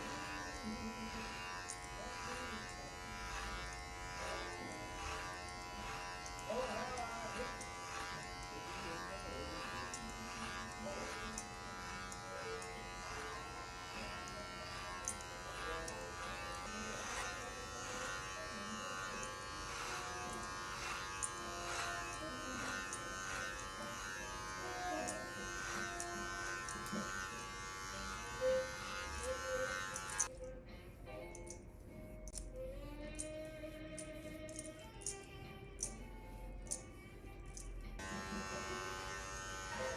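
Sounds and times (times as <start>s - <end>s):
electric hair clippers buzzing: 0.0s - 30.3s, 37.5s - 39.9s.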